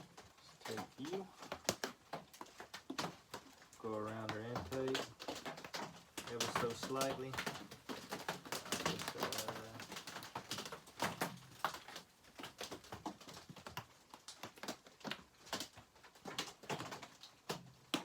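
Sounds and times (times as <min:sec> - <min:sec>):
rain pattering on a roof: 0:00.0 - 0:18.0.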